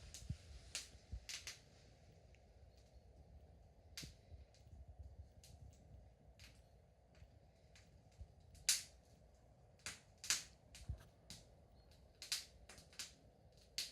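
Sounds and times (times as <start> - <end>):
faint low rumble: 0.0 - 13.8
wood fire crackling: 0.0 - 13.9.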